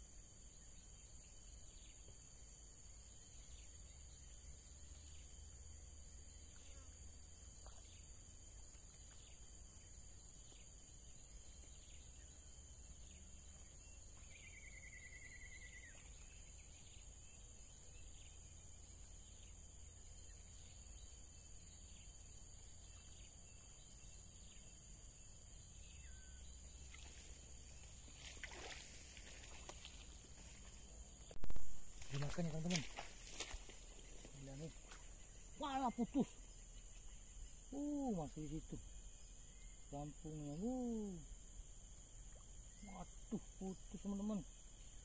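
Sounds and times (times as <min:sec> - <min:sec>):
insects droning: 0:00.0 - 0:45.0
ticking insect chirps: 0:00.0 - 0:45.0.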